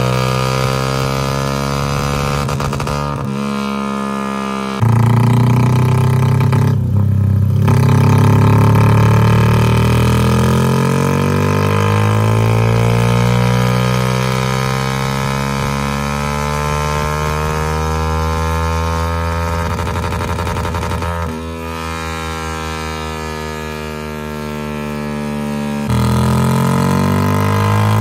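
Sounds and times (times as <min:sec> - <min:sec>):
motorcycle engine revving under load: 0:00.0 - 0:28.0.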